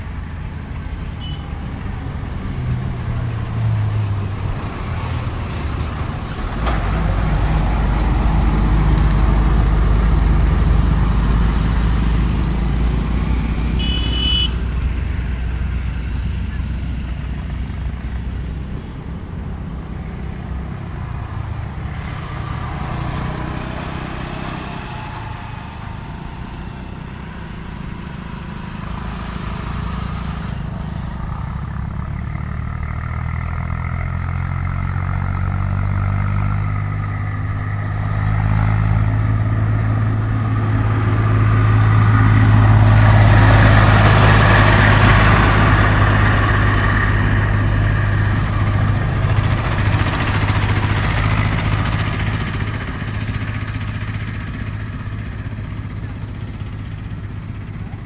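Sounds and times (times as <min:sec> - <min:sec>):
diesel locomotive engine throbbing: 0:00.0 - 0:58.0.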